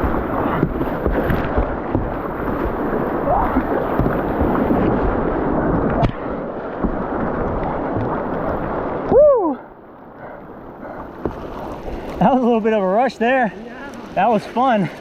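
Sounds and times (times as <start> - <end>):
whitewater rushing and splashing: 0.0 - 15.0.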